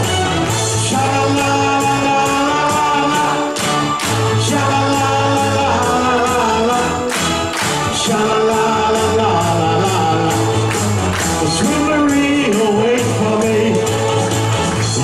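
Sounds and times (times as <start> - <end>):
upbeat backing music: 0.0 - 15.0
man singing into microphone: 0.6 - 14.0, 14.8 - 15.0.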